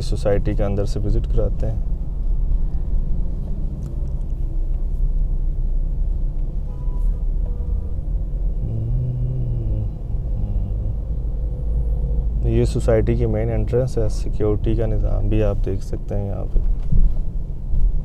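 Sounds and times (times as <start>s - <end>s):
vehicle driving on road: 0.0s - 18.0s.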